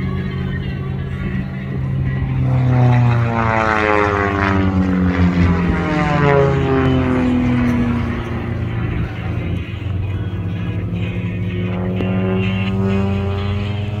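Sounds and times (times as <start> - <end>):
propeller plane engines at full power: 0.0 - 14.0.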